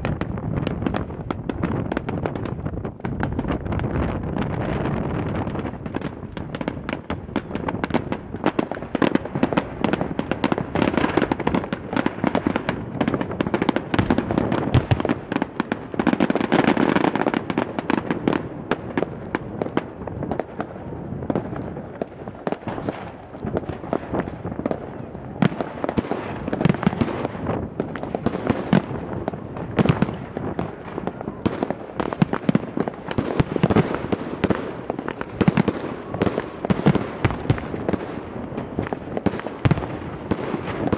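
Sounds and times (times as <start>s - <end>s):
fireworks bursting with bangs and crackles: 0.0s - 40.9s.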